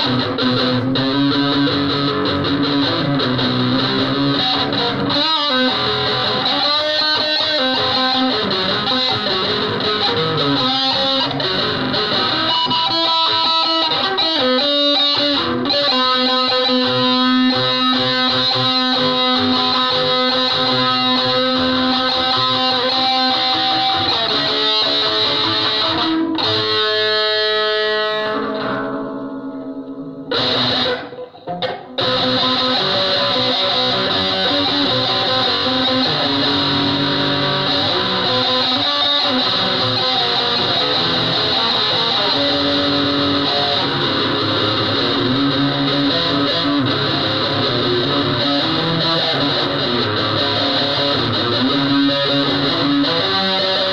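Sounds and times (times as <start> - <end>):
distorted electric guitar: 0.0 - 53.9.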